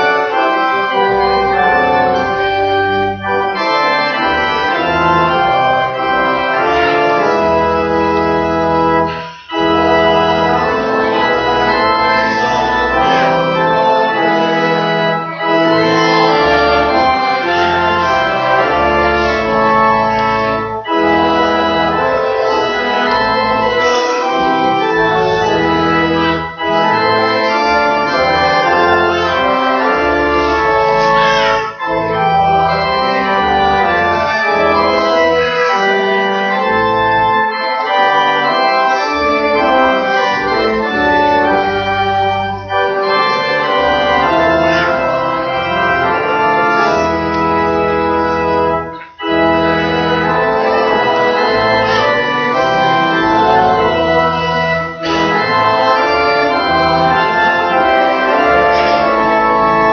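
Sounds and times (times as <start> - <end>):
church organ playing hymn: 0.0 - 59.9.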